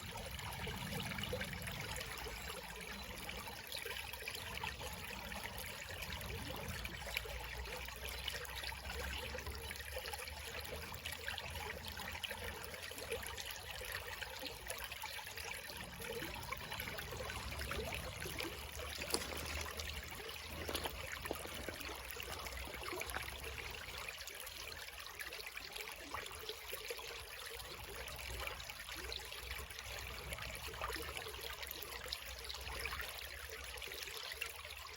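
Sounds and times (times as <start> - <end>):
creek trickling over stones: 0.0 - 34.9.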